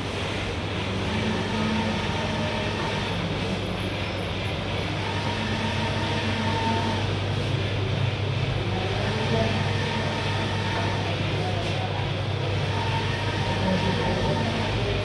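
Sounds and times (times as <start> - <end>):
printer machine hum and whirr: 0.0 - 15.0.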